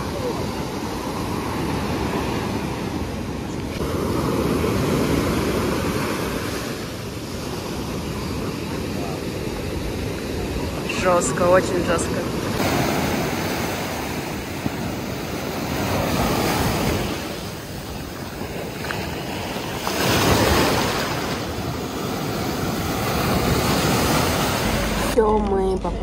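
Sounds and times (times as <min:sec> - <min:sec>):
ocean waves breaking: 0:00.0 - 0:25.3.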